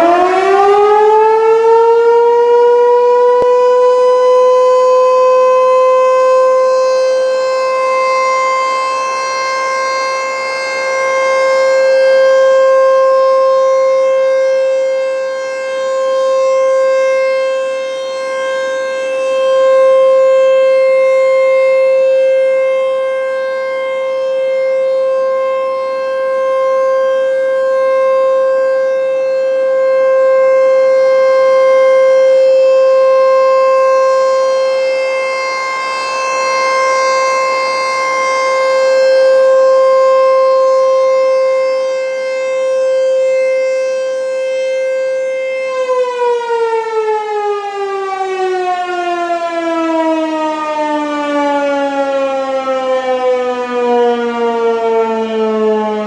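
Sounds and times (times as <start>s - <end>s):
warning siren steady tone: 0.0s - 56.0s.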